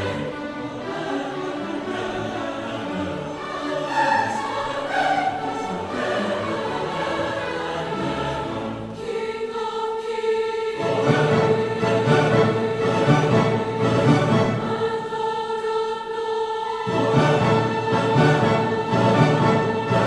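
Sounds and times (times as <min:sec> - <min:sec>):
choir singing sustained chords: 0:00.0 - 0:20.0.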